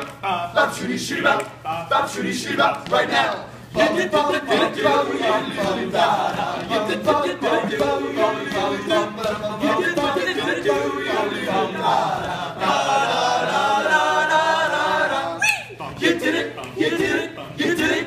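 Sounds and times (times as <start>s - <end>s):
male group singing in harmony: 0.0s - 18.0s.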